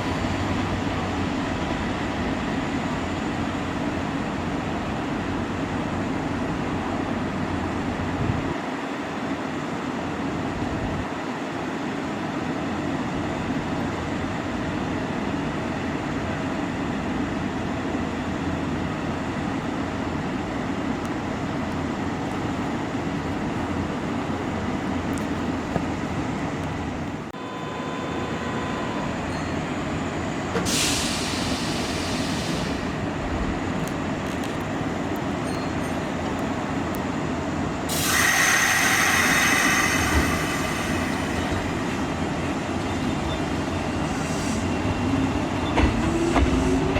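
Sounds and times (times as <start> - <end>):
electric train rumbling: 0.0 - 46.9.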